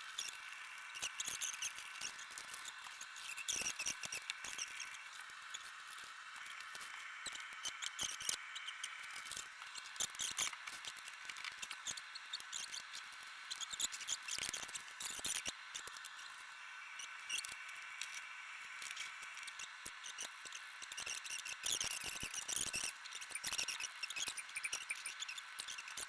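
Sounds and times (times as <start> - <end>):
short high-pitched squeaks: 0.0 - 16.0, 17.0 - 26.0.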